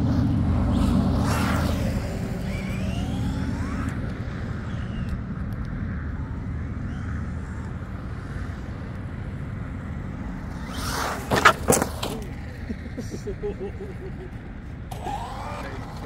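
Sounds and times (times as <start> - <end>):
electric motor whine: 0.0 - 16.0
rc truck low rumble: 0.0 - 16.0.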